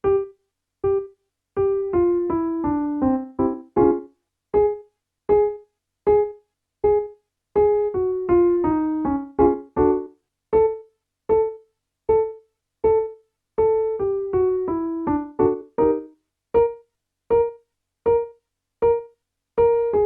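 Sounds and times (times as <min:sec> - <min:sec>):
piano playing warmup pattern: 0:00.0 - 0:20.0.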